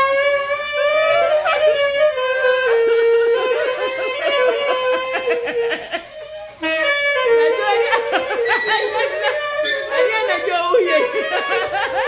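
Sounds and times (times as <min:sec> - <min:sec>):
wind instrument melody: 0:00.0 - 0:12.0.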